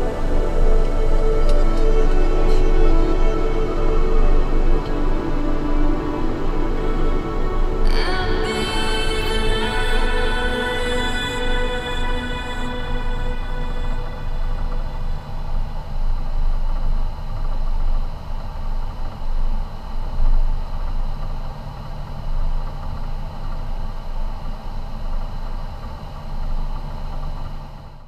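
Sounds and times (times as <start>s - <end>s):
faint engine whine: 0.0s - 28.0s.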